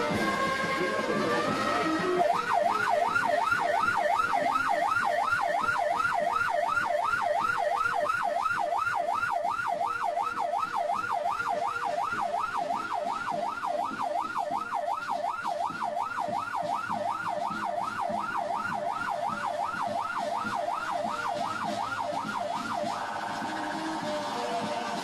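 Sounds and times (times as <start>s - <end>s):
police siren yelping: 0.0s - 25.0s.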